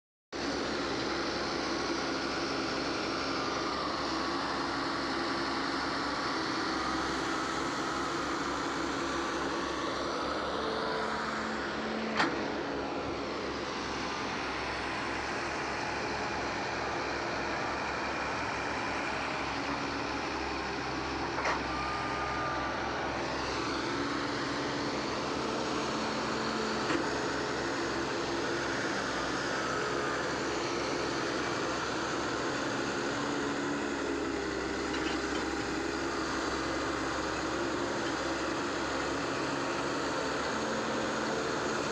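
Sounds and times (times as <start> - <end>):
heavy machine diesel engines: 0.4 - 41.9.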